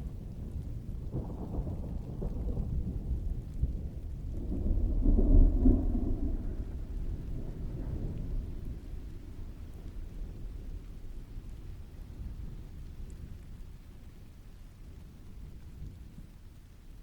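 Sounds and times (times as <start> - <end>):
steady rainfall: 0.0 - 17.0
distant thunder rumbling: 0.1 - 13.8.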